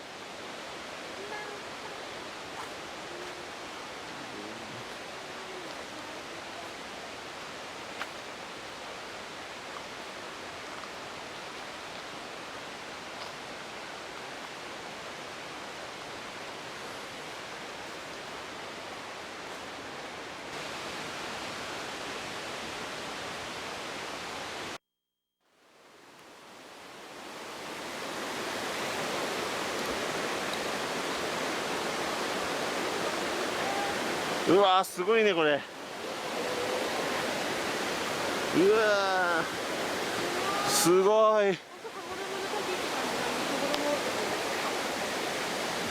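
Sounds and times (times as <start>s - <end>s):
waterfall rushing: 0.0s - 24.8s, 26.8s - 45.9s.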